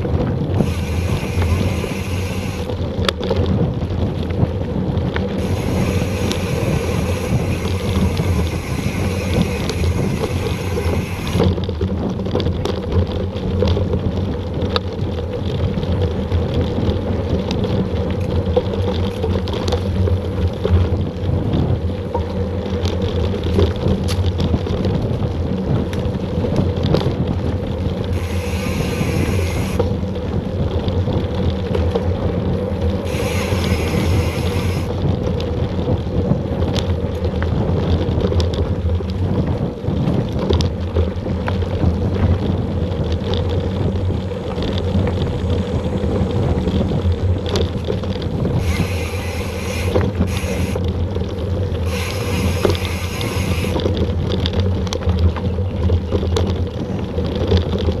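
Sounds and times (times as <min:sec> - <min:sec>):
wind rush: 0:00.0 - 0:12.7, 0:13.9 - 0:55.4
bike tyres rumbling on dirt: 0:00.0 - 0:58.0.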